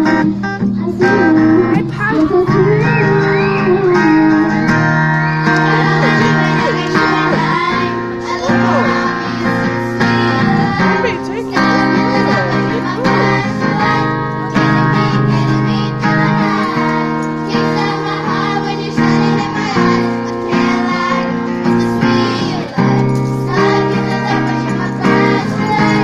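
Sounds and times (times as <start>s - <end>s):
guitar: 0.0s - 26.0s
children singing: 0.8s - 26.0s.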